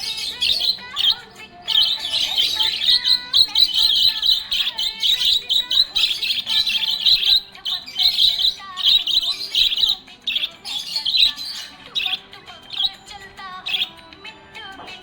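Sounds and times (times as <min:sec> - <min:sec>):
budgerigar chirping and warbling: 0:00.0 - 0:14.0.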